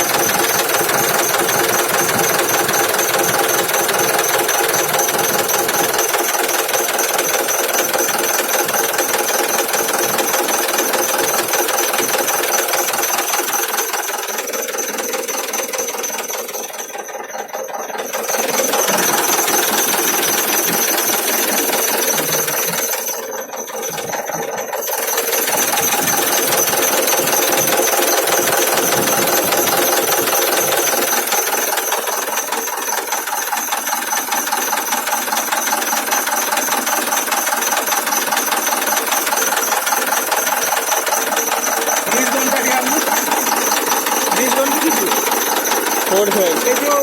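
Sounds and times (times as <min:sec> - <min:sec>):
truck engine rattling: 0:00.0 - 0:47.0.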